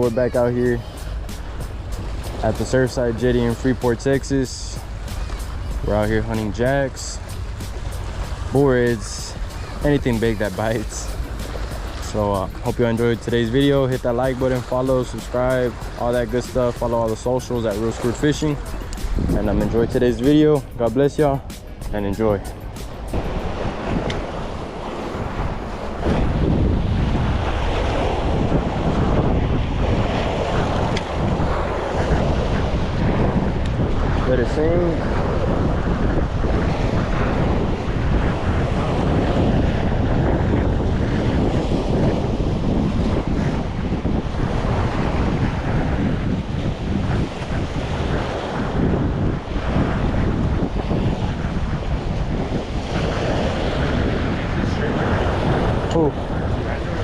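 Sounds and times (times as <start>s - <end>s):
waves washing against rocks: 0.0s - 21.5s, 23.0s - 57.0s
wind buffeting microphone: 0.0s - 57.0s.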